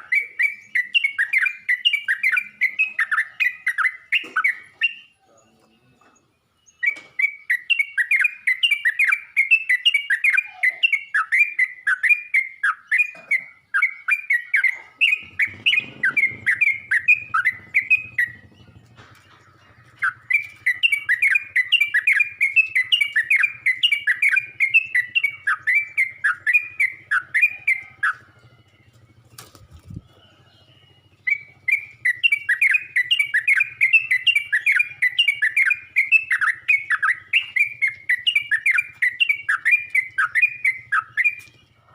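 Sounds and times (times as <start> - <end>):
bird singing chirpy notes: 0.0 - 41.9.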